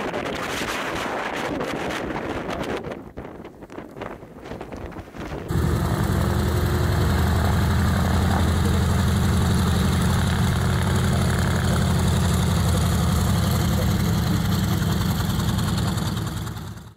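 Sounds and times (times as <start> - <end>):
aircraft engines running low rumble: 0.9 - 16.9.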